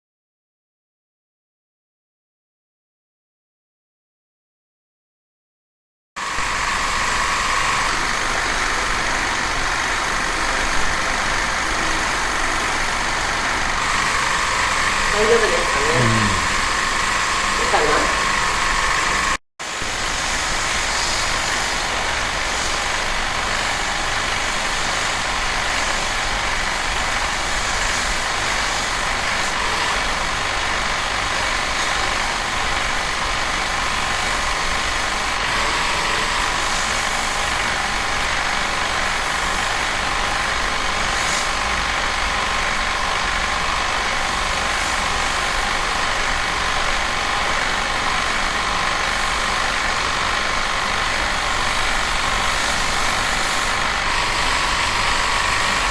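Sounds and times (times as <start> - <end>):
pressure washer spraying water: 6.3 - 41.7, 43.9 - 55.9.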